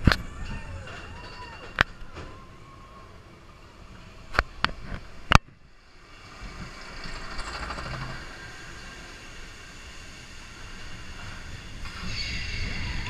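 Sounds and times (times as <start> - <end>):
roller coaster wheel rumble: 0.0 - 13.0.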